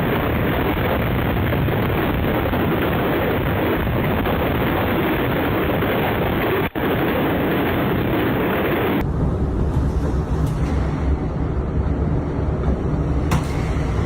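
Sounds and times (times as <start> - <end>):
roaring tornado winds: 0.0 - 14.0
wind rumble on microphone: 0.0 - 14.0.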